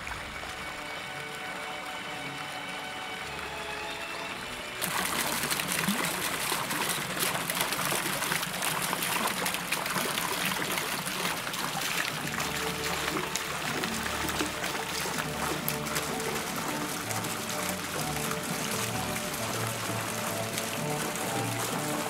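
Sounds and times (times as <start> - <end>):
faint background music: 0.0 - 22.0
running water splashing: 0.0 - 22.0.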